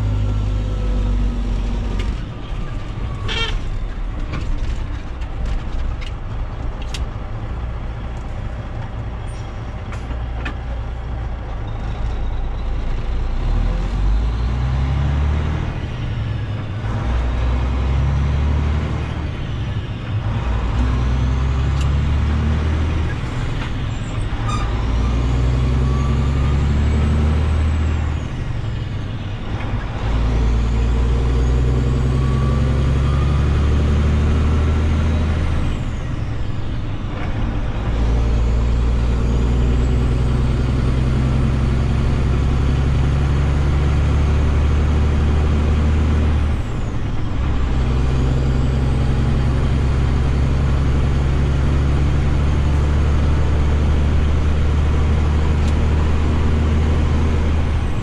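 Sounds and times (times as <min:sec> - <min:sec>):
truck diesel engine shifting gears: 0:00.0 - 0:58.0.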